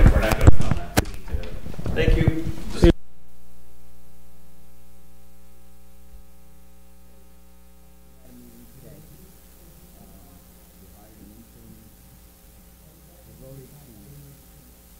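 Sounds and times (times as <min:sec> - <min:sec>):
electrical mains hum: 0:00.0 - 0:14.9.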